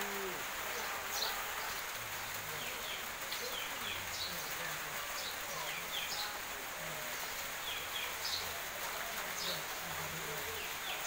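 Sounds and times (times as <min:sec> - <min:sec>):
small birds chirping: 0:00.0 - 0:11.0
steady outdoor hiss: 0:00.0 - 0:11.0.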